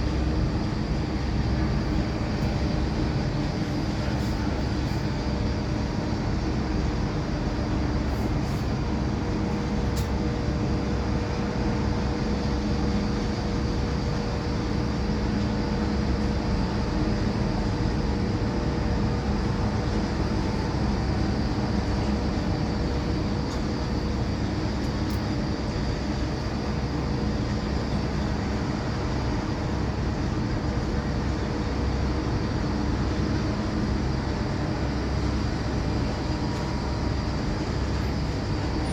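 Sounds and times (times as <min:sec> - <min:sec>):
constant mechanical hums: 0:00.0 - 0:38.9
deep mechanical rumble: 0:00.0 - 0:38.9.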